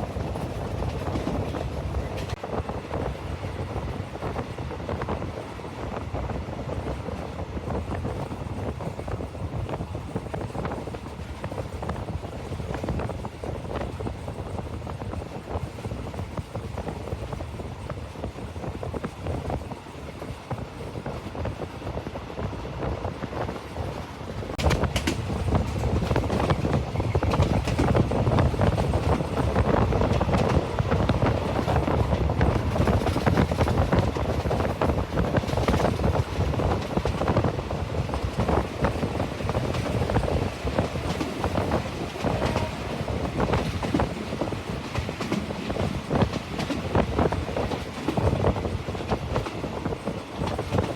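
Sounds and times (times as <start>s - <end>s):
rapid clicks of train wheels: 0.0s - 50.9s
train rumbling on rails: 0.0s - 50.9s.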